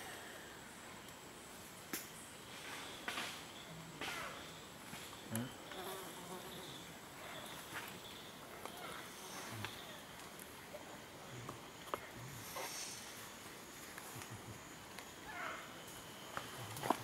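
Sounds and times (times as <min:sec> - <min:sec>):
insects buzzing and droning: 0:00.0 - 0:17.0.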